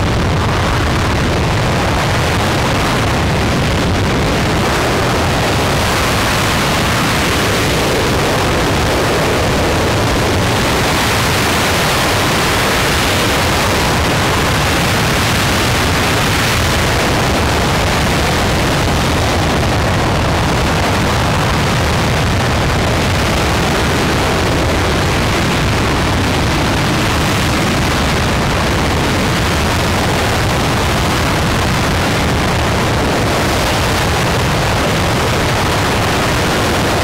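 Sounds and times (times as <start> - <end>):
rocket engine roaring: 0.0 - 37.0.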